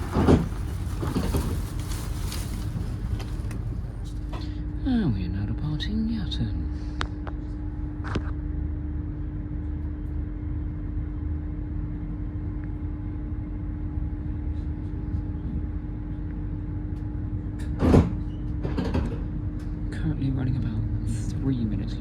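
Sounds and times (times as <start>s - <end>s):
train cabin rumble and hum: 0.0s - 22.0s.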